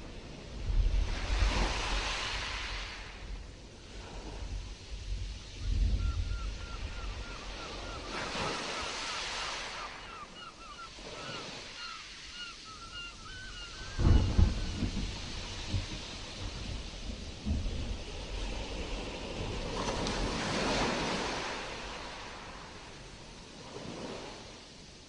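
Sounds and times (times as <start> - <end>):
sea surf breaking: 0.0 - 3.3, 5.8 - 24.6
wind buffeting microphone: 0.0 - 9.5, 13.2 - 24.3.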